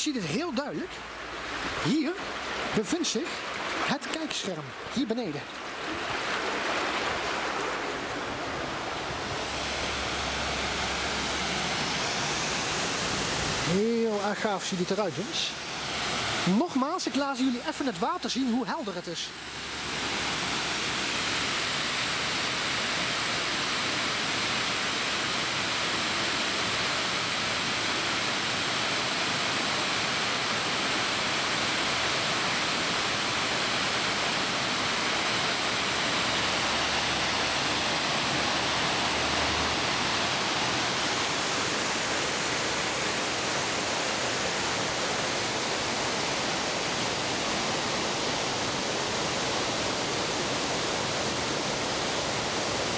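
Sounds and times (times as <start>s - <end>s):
water rushing over weir: 0.0s - 52.9s.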